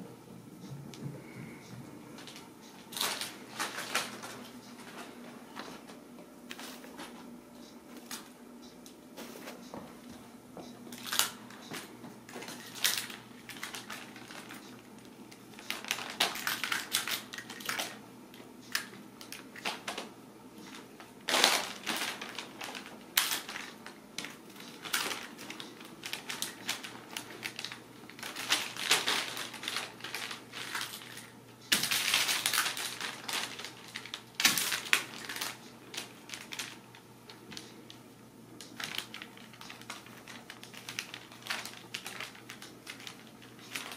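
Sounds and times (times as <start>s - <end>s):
paper crackling and rustling: 1.2s - 7.3s, 10.8s - 18.0s, 18.7s - 38.0s, 38.6s - 43.9s.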